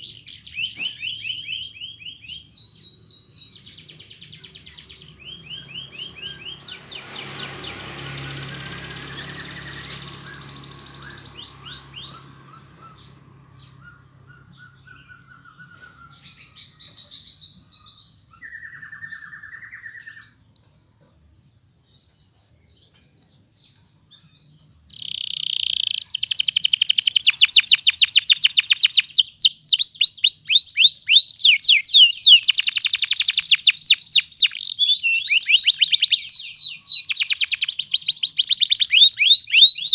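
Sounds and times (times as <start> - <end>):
canary singing: 0.0 - 20.8, 21.8 - 39.9.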